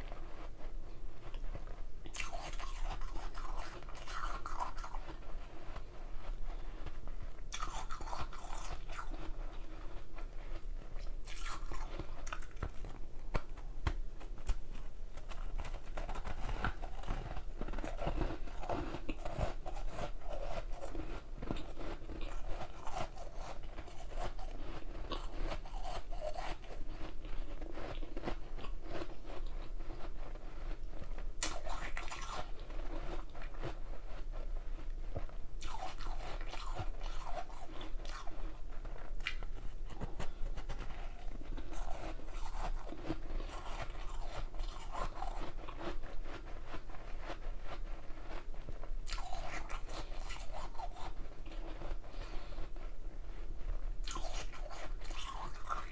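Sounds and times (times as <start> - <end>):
ice crunching being chewed: 0.0 - 52.8, 54.0 - 55.9.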